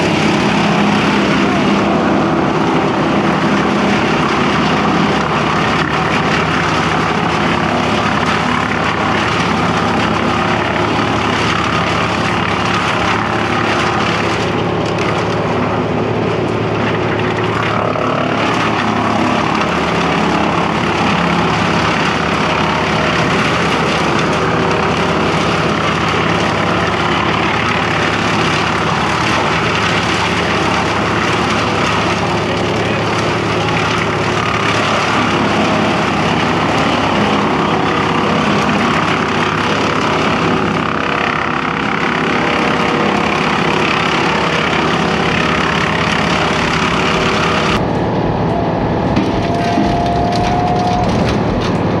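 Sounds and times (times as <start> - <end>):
brush chipper running: 0.0 - 52.0.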